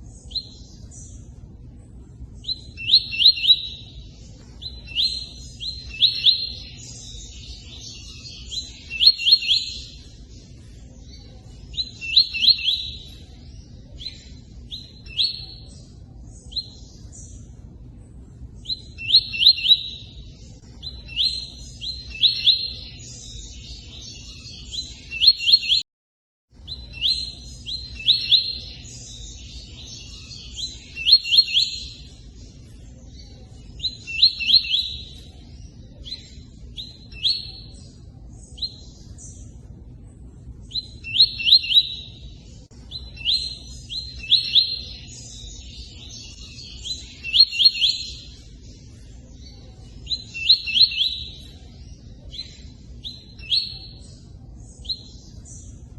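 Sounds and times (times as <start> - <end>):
bird chirping in bursts: 0.0 - 25.8, 26.6 - 55.9.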